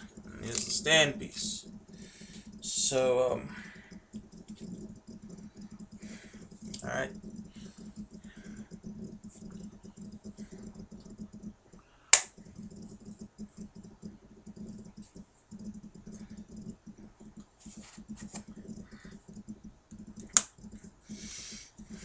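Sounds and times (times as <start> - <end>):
sharp plastic clicks: 0.0 - 22.0.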